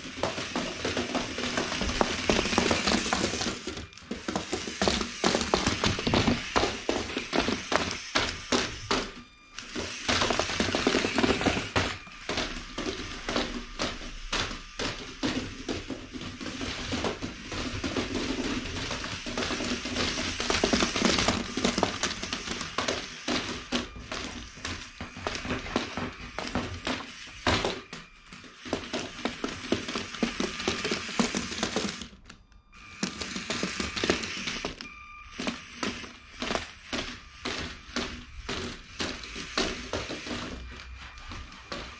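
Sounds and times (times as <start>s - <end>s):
electric motors whirring: 0.0s - 41.9s
plastic feet tapping on wooden floor: 0.0s - 41.9s.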